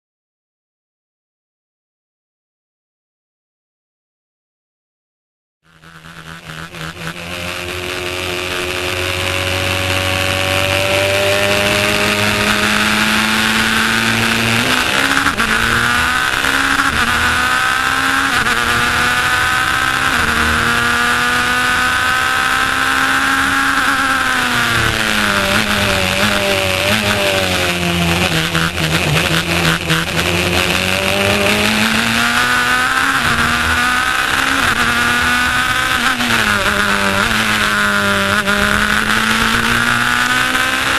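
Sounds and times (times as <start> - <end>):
racing car engine: 5.6 - 40.9
wind and road noise: 5.7 - 40.9.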